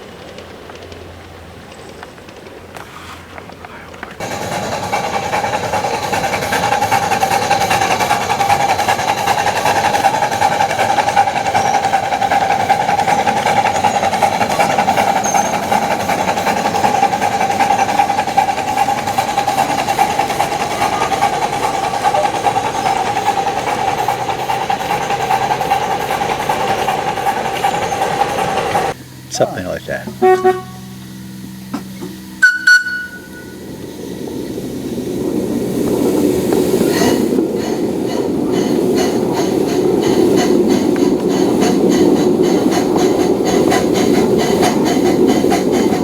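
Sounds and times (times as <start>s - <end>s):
model train running on track: 0.0s - 46.0s.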